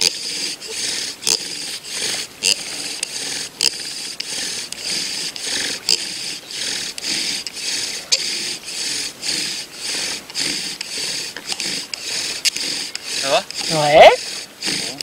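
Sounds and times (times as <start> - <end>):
wooden spindle grinding: 0.0 - 15.0.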